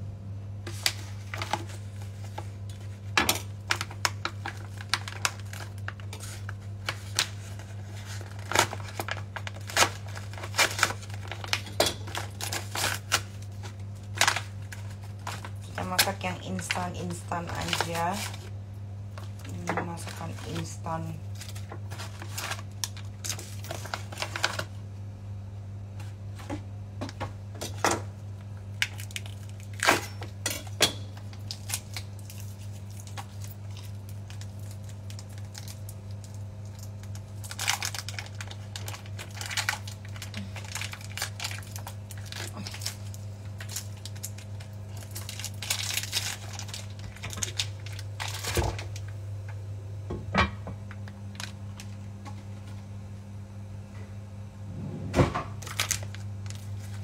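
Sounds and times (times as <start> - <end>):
steady low hum: 0.0 - 57.0
wrappers crinkling and tearing: 0.6 - 24.8, 27.6 - 49.2, 51.0 - 52.1, 55.6 - 57.0.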